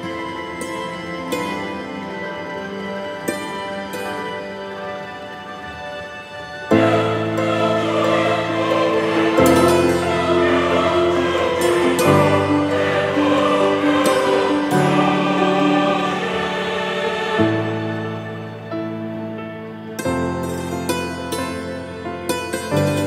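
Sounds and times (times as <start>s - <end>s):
choir holding sustained chords: 0.0s - 23.0s.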